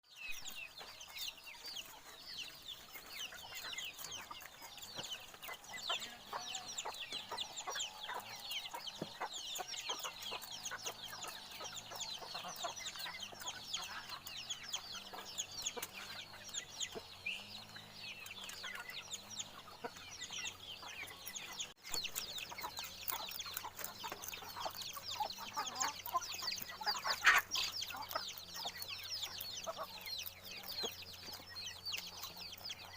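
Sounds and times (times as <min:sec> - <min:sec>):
birds chirping and peeping: 0:00.0 - 0:32.9.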